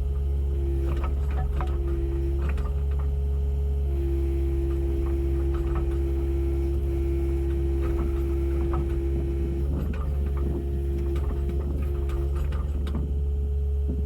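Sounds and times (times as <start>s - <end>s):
steady whining tone: 0.0s - 13.2s.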